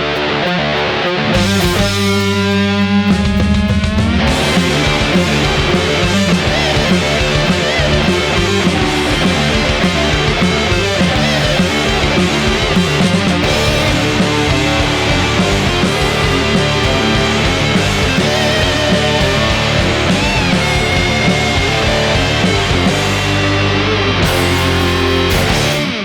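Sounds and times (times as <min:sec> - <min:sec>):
heavy rock band playing: 0:00.0 - 0:26.0.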